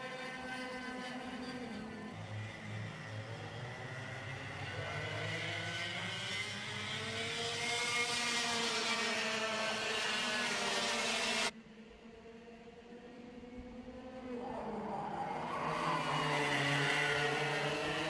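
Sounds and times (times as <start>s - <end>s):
kart engines accelerating and braking: 0.0s - 18.0s.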